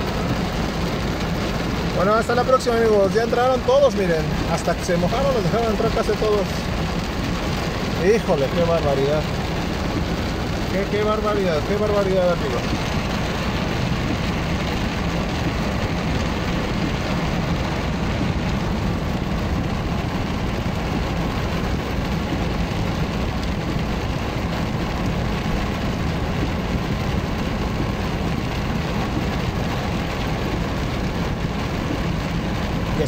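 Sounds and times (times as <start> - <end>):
car engine idling: 0.0 - 33.0
heavy rain on car roof: 0.0 - 33.0.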